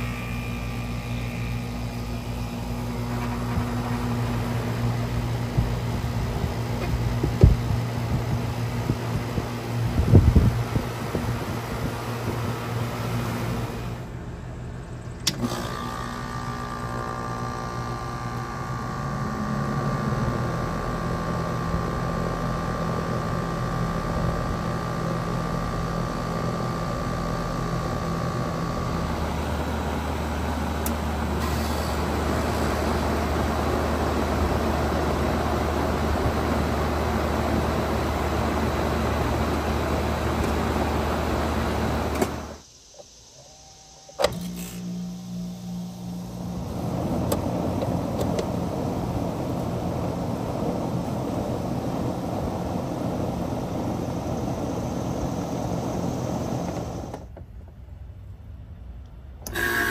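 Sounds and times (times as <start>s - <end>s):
high whine: 0.0s - 49.7s
compressor hum: 0.0s - 59.9s
fan air rushing: 0.0s - 59.9s.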